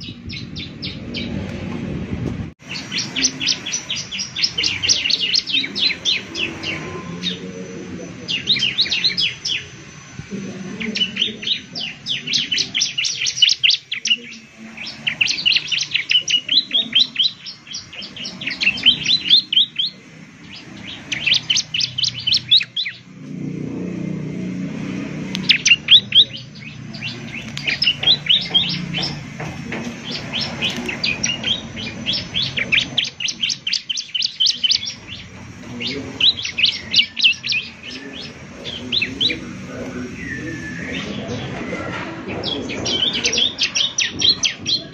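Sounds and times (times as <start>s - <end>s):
bird singing high chirps: 0.0s - 1.4s, 2.6s - 44.9s.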